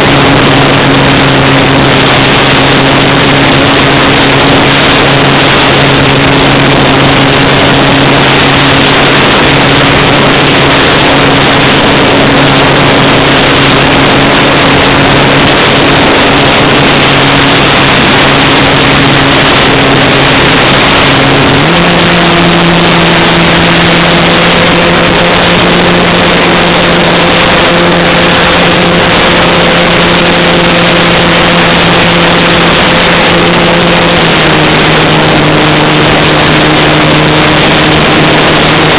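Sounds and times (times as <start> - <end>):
model plane electric motor hum: 0.0 - 38.9
rush of air: 0.0 - 38.9.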